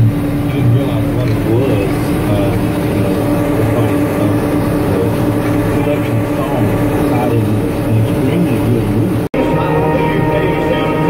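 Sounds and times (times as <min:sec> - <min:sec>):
tractor engine under load: 0:00.0 - 0:09.3.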